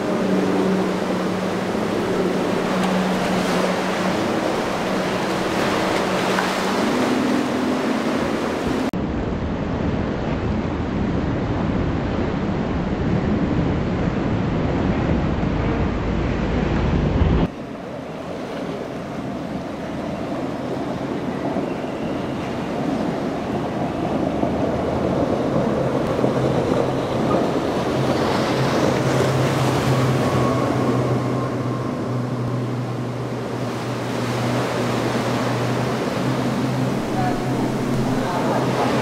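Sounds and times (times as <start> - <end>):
wind buffeting microphone: 0.0 - 17.6, 19.1 - 39.0
boat engine drone: 0.0 - 39.0
waves breaking: 0.0 - 39.0.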